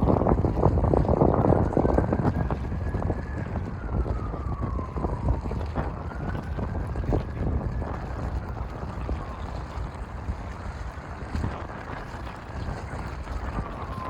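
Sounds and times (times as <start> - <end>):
faint wailing siren: 0.0 - 14.0
wind buffeting microphone: 0.0 - 14.0.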